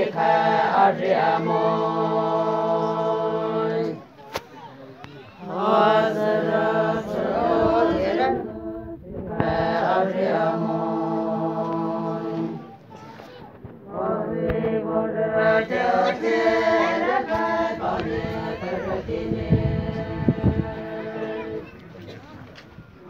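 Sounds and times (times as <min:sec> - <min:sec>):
women singing together: 0:00.0 - 0:04.0, 0:05.4 - 0:12.7, 0:13.8 - 0:21.7.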